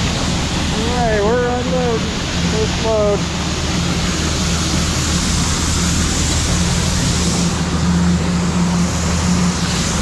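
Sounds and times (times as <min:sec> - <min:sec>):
combine engine drone: 0:00.0 - 0:10.0
grain hissing rush: 0:00.0 - 0:10.0.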